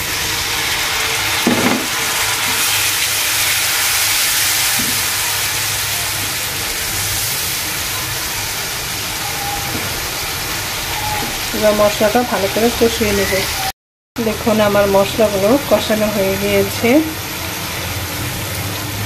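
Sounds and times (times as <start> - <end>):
masala sizzling in a frying pan: 0.0 - 19.0.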